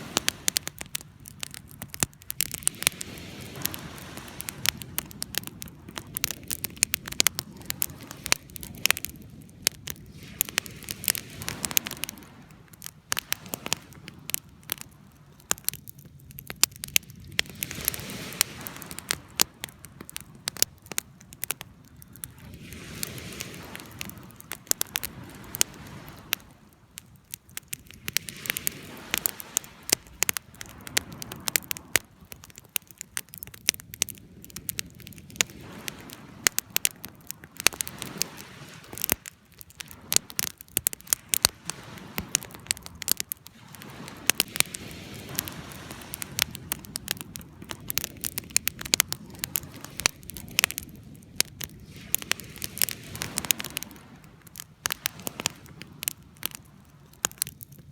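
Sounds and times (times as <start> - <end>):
campfire crackling: 0.0 - 57.9
sharp fire pops: 0.0 - 57.9.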